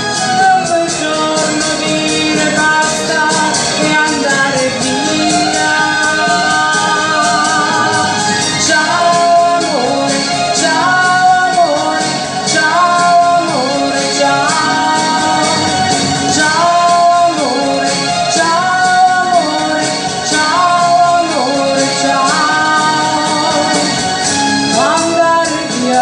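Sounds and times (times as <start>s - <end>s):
pop music backing track: 0.0s - 26.0s
woman singing into microphone: 0.0s - 26.0s.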